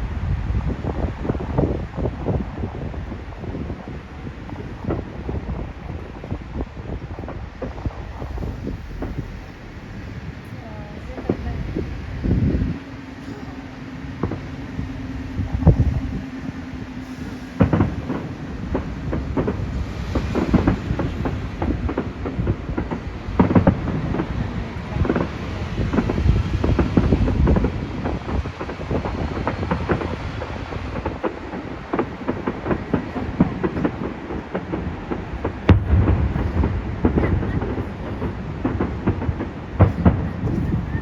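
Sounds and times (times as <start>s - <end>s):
deep firework booms: 0.0s - 41.0s
fireworks bangs and crackles: 0.0s - 41.0s.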